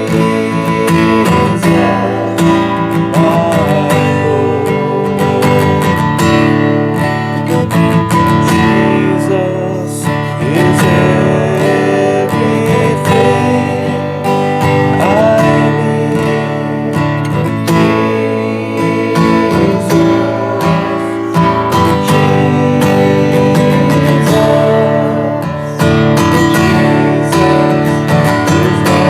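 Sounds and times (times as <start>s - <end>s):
strummed acoustic guitar music: 0.0s - 29.0s.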